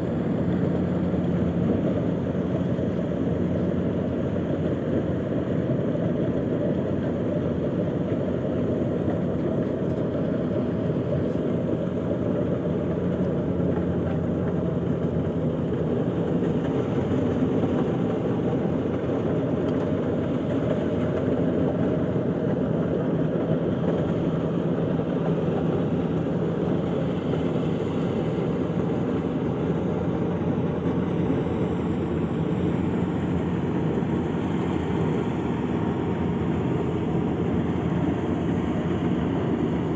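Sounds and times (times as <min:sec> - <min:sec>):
harvester engine humming: 0:00.0 - 0:39.9.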